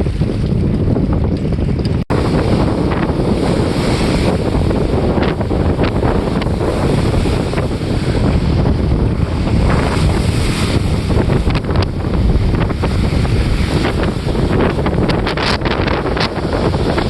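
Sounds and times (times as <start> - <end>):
water splashing against hull: 0.0 - 17.0
wind blasting microphone: 0.0 - 17.0.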